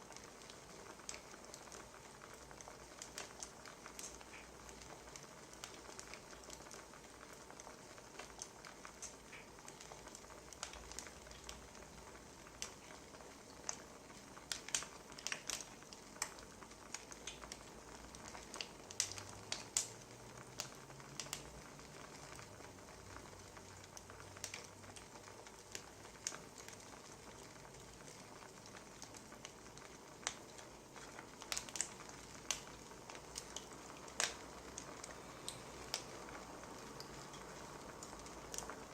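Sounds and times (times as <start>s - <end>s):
faint steady hiss: 0.0s - 38.9s
wood fire crackling: 0.0s - 38.9s.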